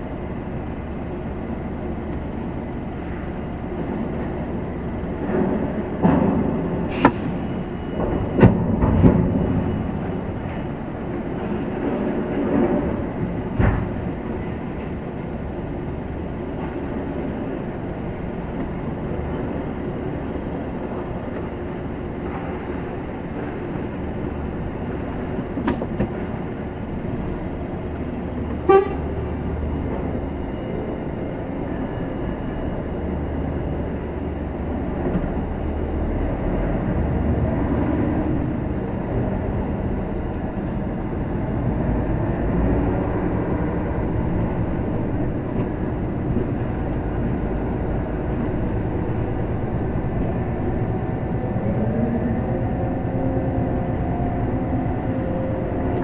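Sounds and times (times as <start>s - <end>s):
diesel truck engine low rumble: 0.0s - 56.0s.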